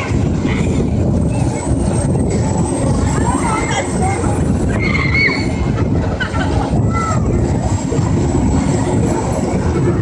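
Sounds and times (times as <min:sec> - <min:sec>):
carnival ride rumbling: 0:00.0 - 0:10.0
voices: 0:00.0 - 0:10.0.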